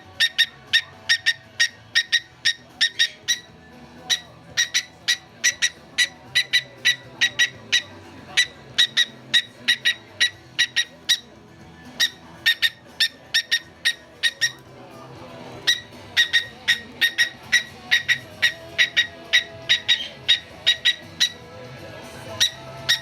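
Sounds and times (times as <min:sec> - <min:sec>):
faint music: 0:00.0 - 0:23.0.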